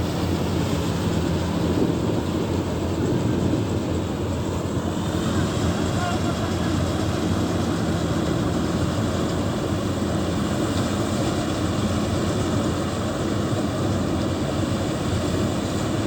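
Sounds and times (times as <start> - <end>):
heavy diesel engines running: 0.0 - 16.0.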